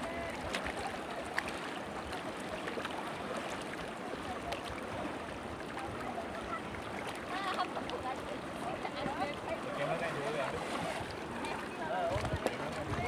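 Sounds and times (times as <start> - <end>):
shallow river water rushing: 0.0 - 13.0
small water splashes: 0.0 - 13.0.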